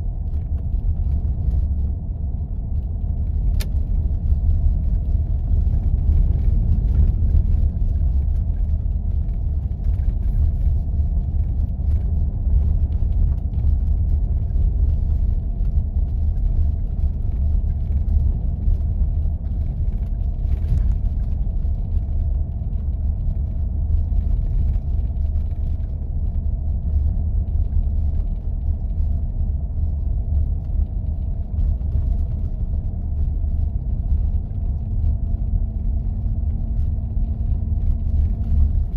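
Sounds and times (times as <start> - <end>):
engine and tyres rumbling on snow: 0.0 - 38.9.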